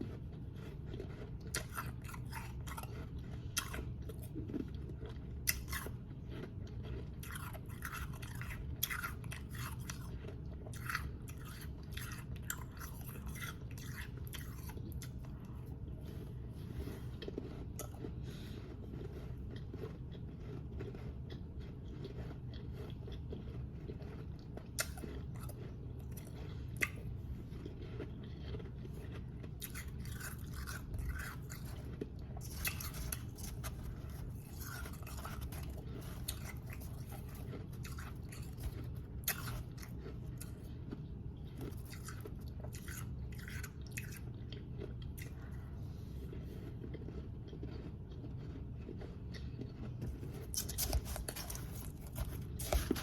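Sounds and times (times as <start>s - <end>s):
chewing crunchy ice: 0.0s - 53.0s
steady low hum: 0.0s - 53.0s.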